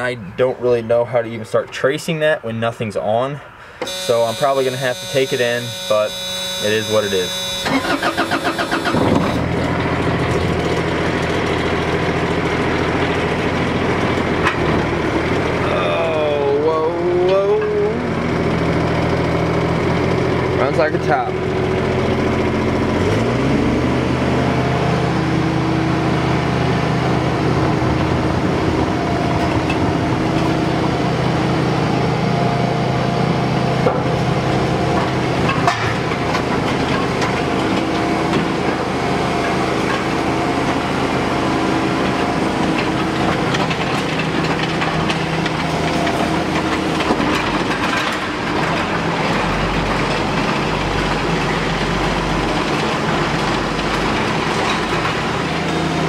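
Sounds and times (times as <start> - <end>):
excavator engine running: 3.8 - 56.0.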